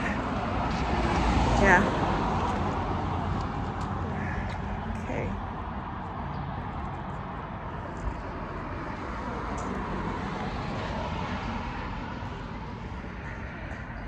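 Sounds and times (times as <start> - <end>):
car road noise: 0.0 - 14.0.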